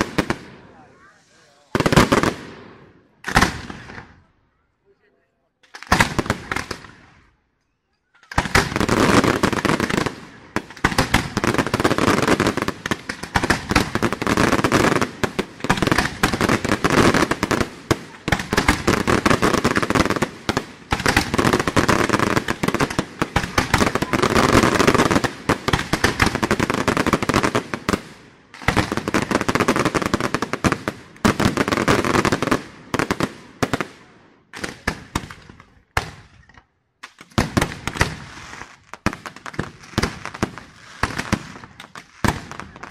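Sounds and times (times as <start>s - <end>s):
fireworks bangs and crackling bursts: 0.0s - 4.4s, 5.6s - 7.5s, 8.1s - 42.9s.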